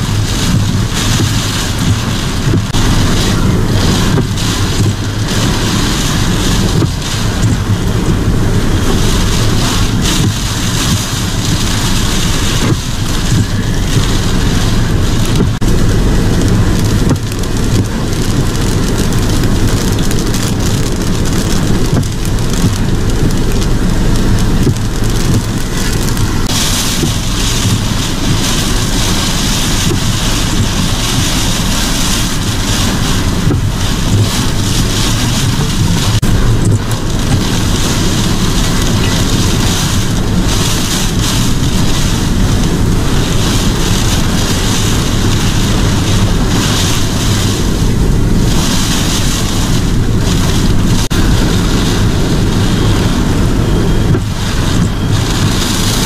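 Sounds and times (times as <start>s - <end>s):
heavy driving rain: 0.0s - 56.0s
wind rumble on microphone: 0.0s - 56.0s.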